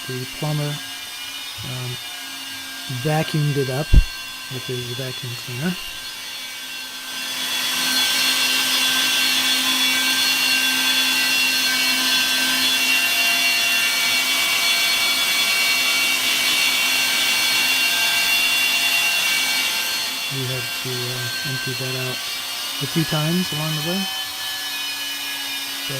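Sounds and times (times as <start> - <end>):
wet dry vacuum cleaner running: 0.0 - 25.9.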